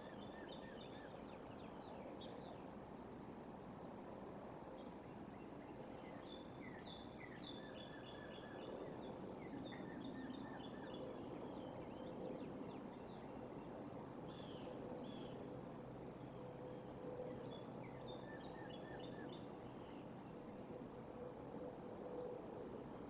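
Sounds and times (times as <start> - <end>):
outdoor background hum: 0.0 - 23.0.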